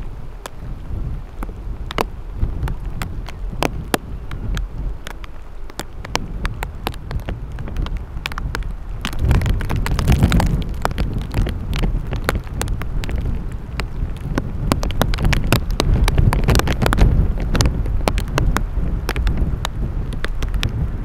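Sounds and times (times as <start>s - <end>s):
raindrops ticking: 0.0s - 21.0s
wind buffeting microphone: 0.0s - 21.0s.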